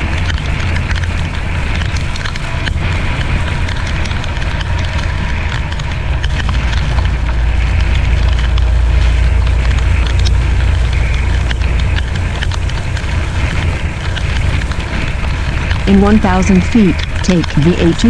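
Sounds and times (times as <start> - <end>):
raindrops ticking on windshield: 0.0 - 18.0
truck engine and tyres drone: 0.0 - 18.0.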